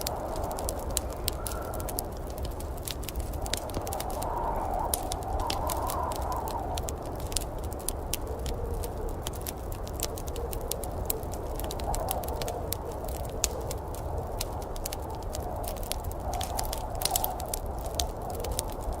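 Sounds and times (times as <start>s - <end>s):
low fire rumble: 0.0s - 19.0s
wood fire sharp pops: 0.0s - 19.0s.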